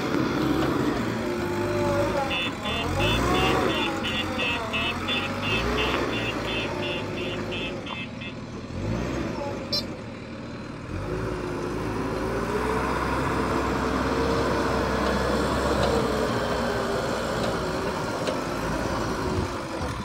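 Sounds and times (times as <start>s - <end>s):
diesel engine under load: 0.0s - 20.0s
engine whine: 0.0s - 20.0s.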